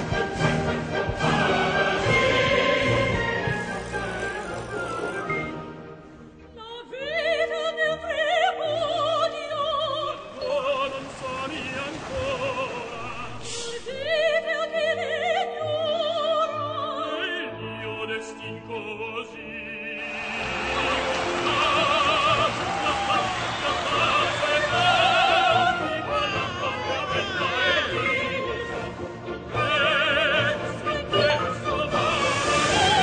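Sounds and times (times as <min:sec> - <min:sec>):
operatic voice singing: 0:00.0 - 0:05.4, 0:06.6 - 0:33.0
orchestral backing music: 0:00.0 - 0:33.0.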